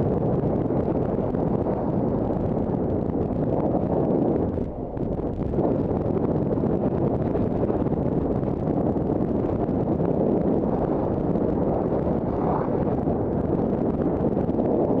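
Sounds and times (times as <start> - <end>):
wind roaring over microphone: 0.0 - 15.0.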